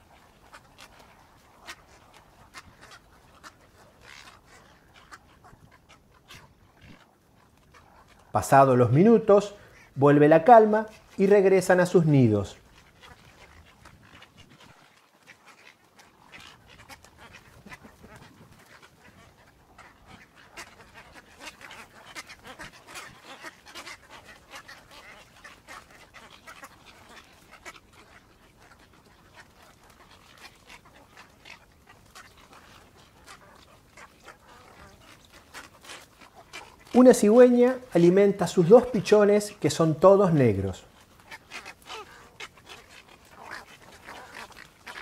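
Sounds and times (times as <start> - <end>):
egret colony calling: 0.0 - 45.0.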